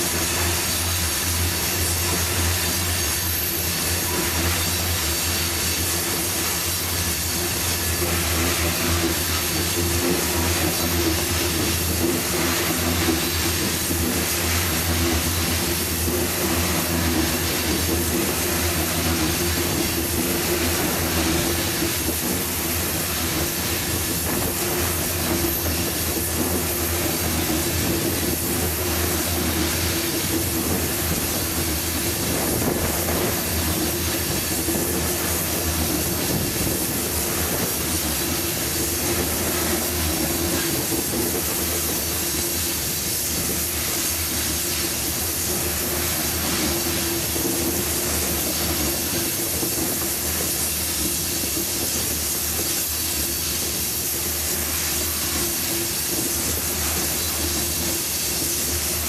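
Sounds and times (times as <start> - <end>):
steel train wheels on rails: 0.0 - 59.0.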